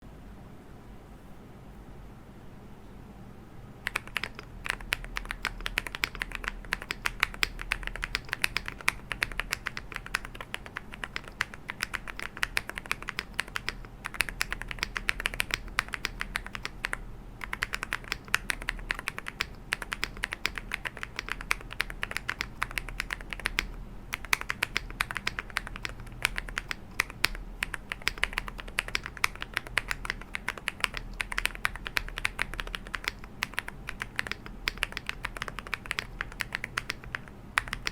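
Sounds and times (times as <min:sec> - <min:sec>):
mechanical keyboard typing: 0:03.8 - 0:37.9.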